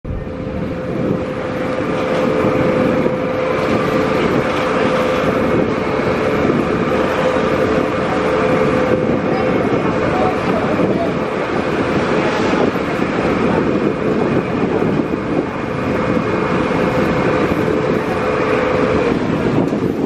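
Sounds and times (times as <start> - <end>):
boat engine humming: 0.0 - 20.0
water rushing: 0.1 - 20.0.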